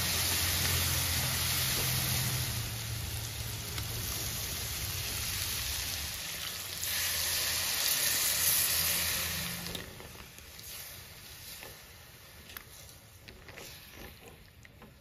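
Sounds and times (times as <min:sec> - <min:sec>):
meat sizzling in a wok: 0:00.0 - 0:12.2
water hissing in hot pan: 0:00.0 - 0:12.8.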